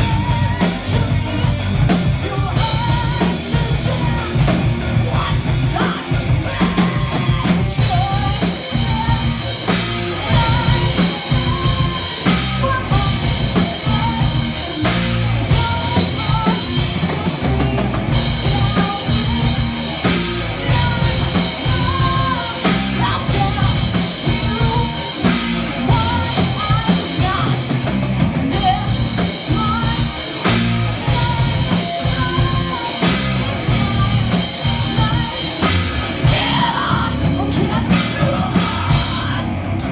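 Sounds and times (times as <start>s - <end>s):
heavy bass drum: 0.0s - 39.6s
person singing: 0.0s - 39.6s
metal band playing live: 0.0s - 39.9s.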